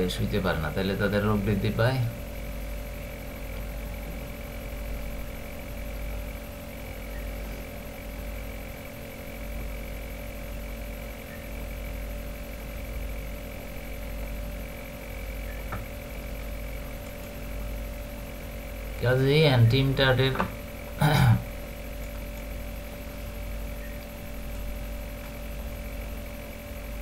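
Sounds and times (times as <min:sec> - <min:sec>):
electrical hum: 0:00.0 - 0:27.0
faint constant tones: 0:00.0 - 0:27.0.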